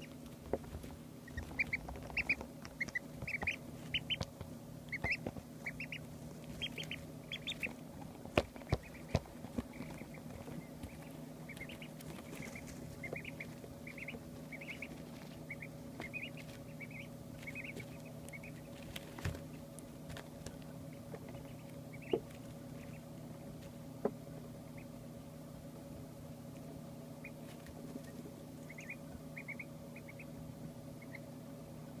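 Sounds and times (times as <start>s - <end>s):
ducklings peeping: 0.0s - 32.0s
steady low hum: 0.0s - 32.0s.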